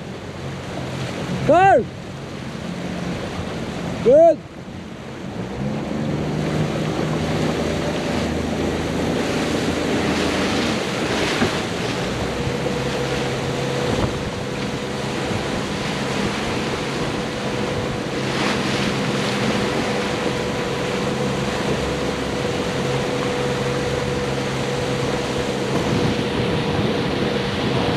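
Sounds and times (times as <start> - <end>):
motorboat engine running: 0.0 - 27.9
water rushing past hull: 0.0 - 27.9
wind buffeting microphone: 5.4 - 27.9.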